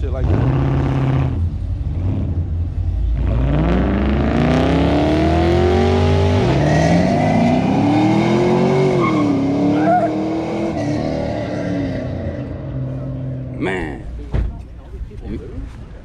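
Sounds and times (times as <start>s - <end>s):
car engine accelerating: 0.0s - 13.6s.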